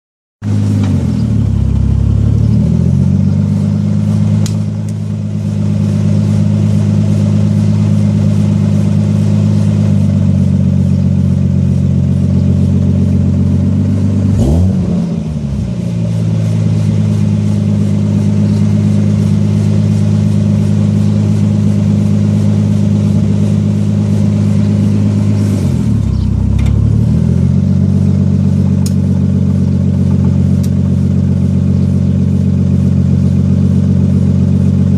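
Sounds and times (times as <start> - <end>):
engine running: 0.4 - 34.9.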